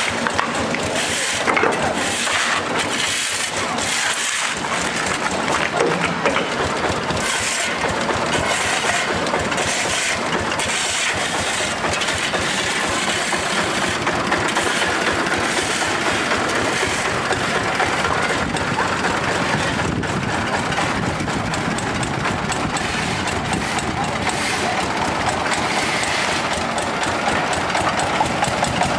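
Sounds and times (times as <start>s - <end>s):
excavator engine running: 0.0s - 28.9s.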